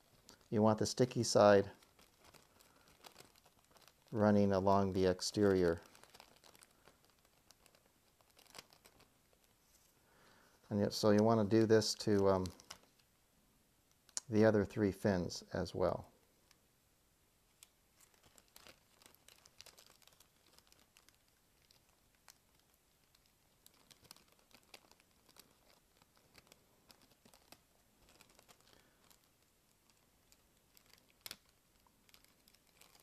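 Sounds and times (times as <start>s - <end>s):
plastic film crinkling: 0.0s - 13.2s, 17.5s - 33.0s.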